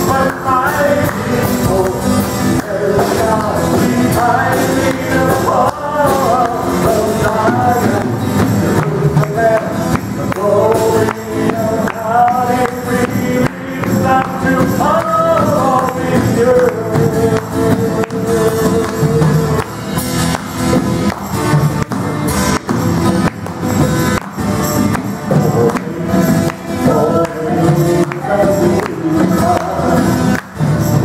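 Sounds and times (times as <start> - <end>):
person singing melody: 0.0 - 20.4, 24.9 - 31.0
acoustic guitar: 0.0 - 31.0
hand drums: 0.0 - 31.0.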